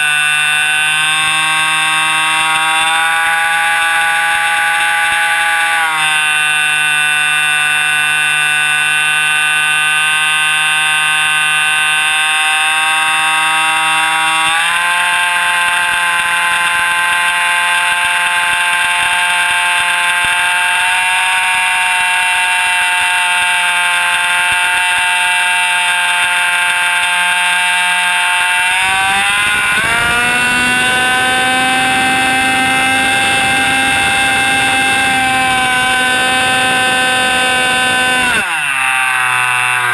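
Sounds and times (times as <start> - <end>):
model plane engine whining: 0.0 - 12.4, 13.9 - 39.9.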